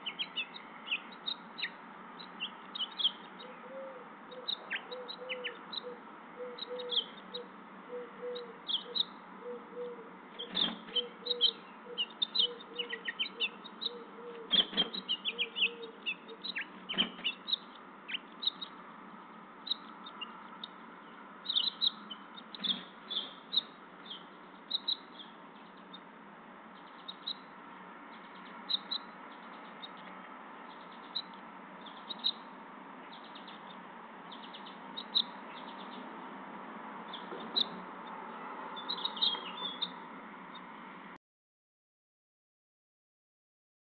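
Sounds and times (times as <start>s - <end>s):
small birds chirping: 0.0s - 40.8s.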